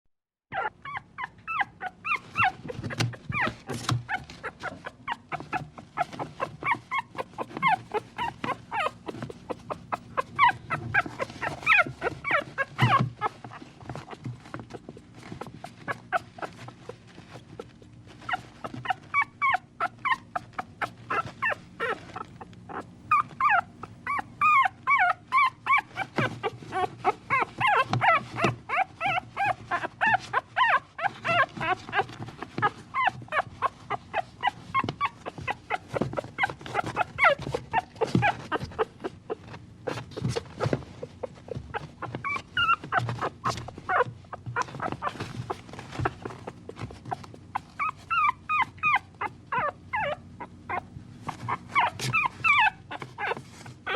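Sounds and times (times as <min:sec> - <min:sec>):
puppy whining and whimpering: 0:00.5 - 0:53.9.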